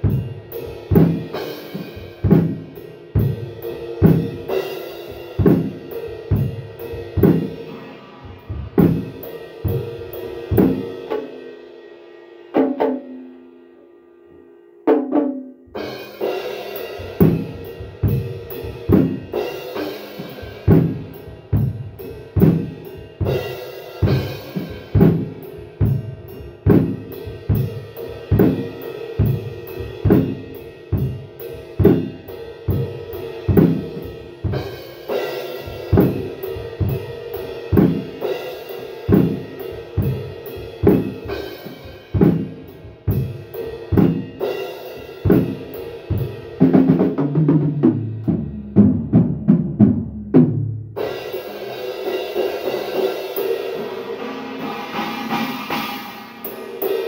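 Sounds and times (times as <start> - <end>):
drum kit playing a groove: 0.0 - 13.7, 14.8 - 57.0.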